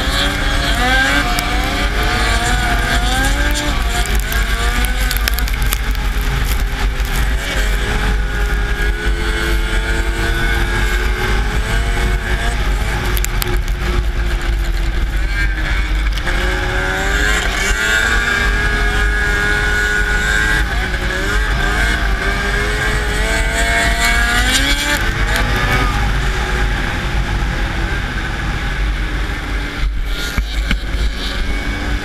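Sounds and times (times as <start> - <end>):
snowmobile engine revving high: 0.0 - 32.0.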